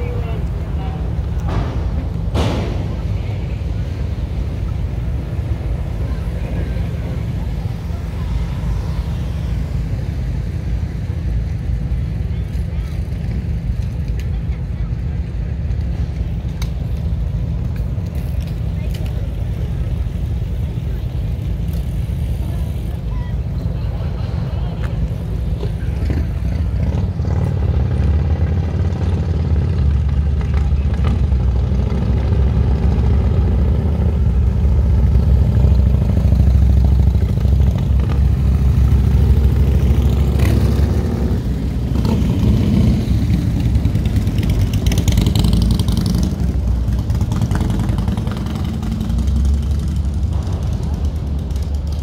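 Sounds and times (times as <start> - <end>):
low engine rumble: 0.0 - 52.0.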